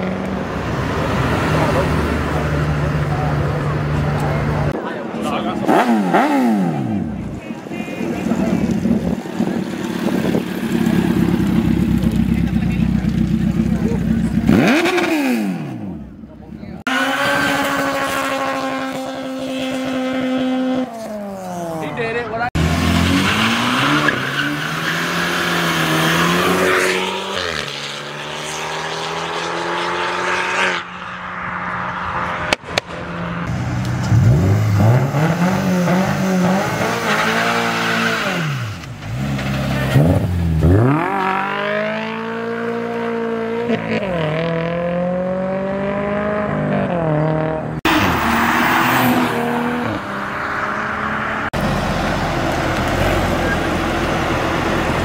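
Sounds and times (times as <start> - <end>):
cars accelerating past: 0.0 - 12.4, 16.9 - 55.0.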